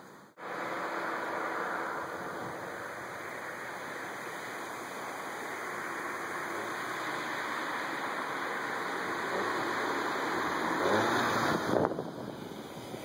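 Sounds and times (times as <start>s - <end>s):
distant car approaching: 0.0s - 13.0s
steady rushing noise: 0.2s - 13.0s.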